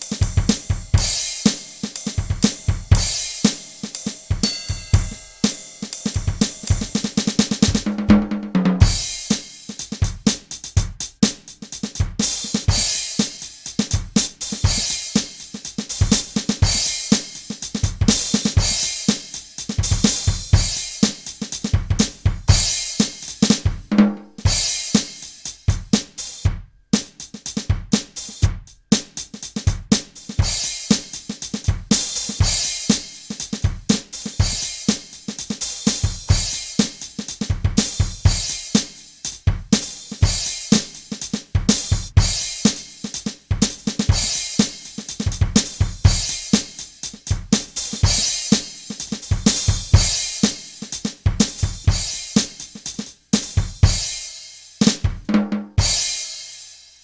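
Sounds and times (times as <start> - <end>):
electronic drum kit groove: 0.0 - 56.4.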